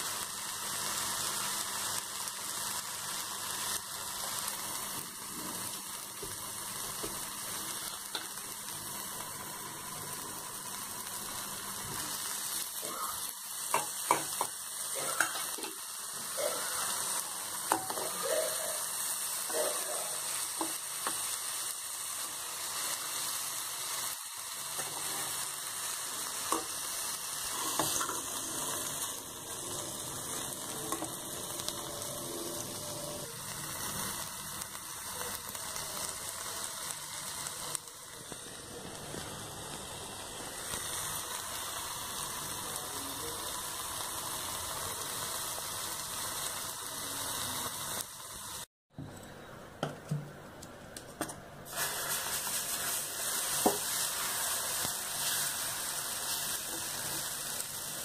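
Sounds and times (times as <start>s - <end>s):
food sizzling in a pan: 0.0s - 48.7s, 51.6s - 58.0s.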